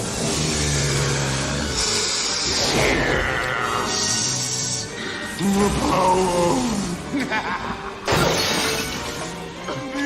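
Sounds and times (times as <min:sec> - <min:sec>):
deep rumbling magic drone: 0:00.0 - 0:08.1.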